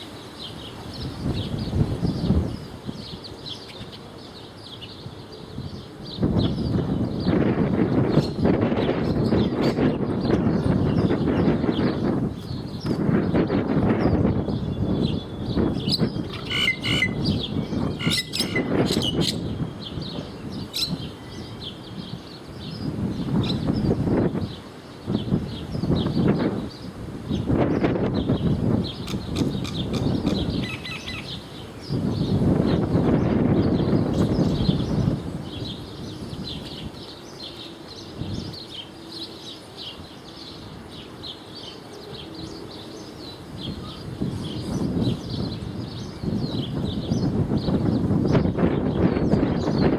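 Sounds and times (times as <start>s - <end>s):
small birds chirping: 0.0s - 49.9s
wind rumble on microphone: 0.0s - 49.9s.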